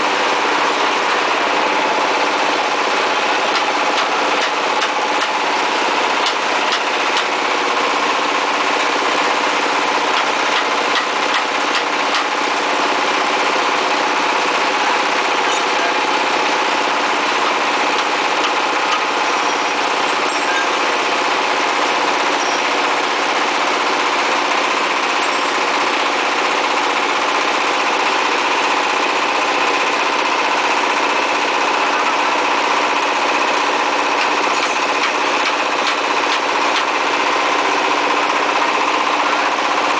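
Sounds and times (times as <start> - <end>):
diesel machine droning: 0.0 - 39.9.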